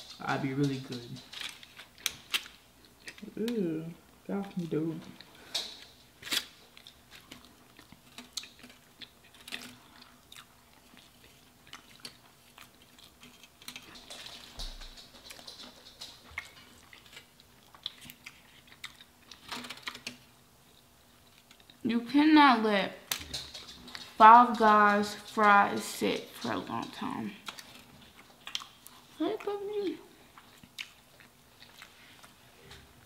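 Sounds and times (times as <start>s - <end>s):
chewing with mouth clicks and smacks: 0.0s - 3.6s, 4.4s - 21.8s, 23.1s - 33.0s.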